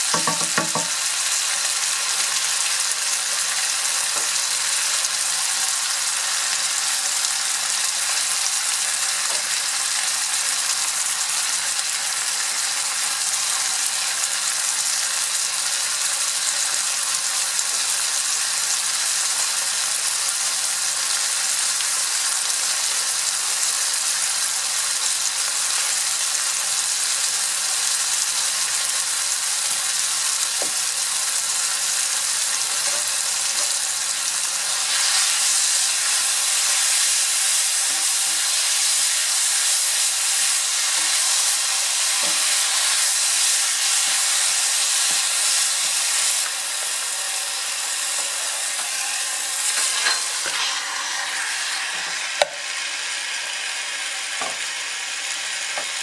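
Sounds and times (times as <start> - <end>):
vegetables sizzling in a skillet: 0.0 - 56.0.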